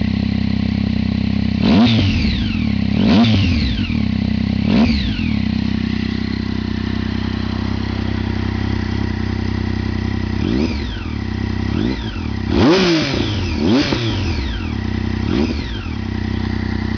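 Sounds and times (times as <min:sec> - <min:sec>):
motorcycle engine idling: 0:00.0 - 0:16.9
motorcycle throttle blips: 0:01.6 - 0:16.9.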